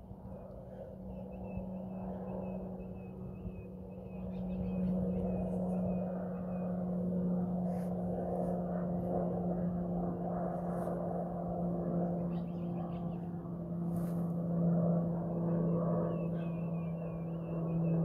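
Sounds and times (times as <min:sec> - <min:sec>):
distant propeller aircraft droning: 0:00.0 - 0:18.0.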